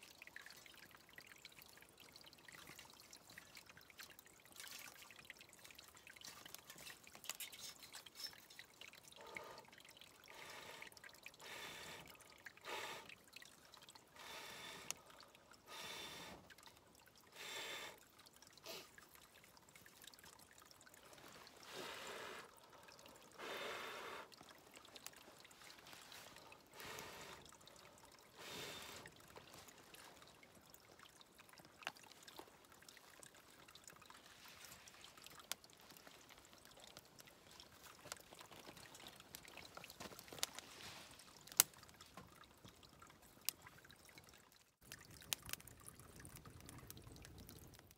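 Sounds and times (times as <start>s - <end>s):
stream trickling: 0.0s - 47.9s.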